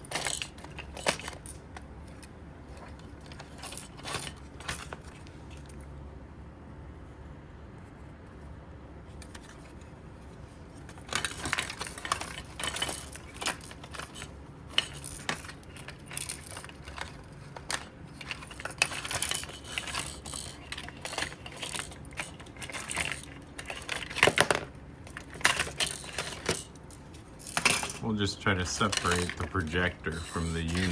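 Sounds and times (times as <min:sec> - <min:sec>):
plastic parts clicking and rattling: 0:00.0 - 0:05.9, 0:09.2 - 0:30.9.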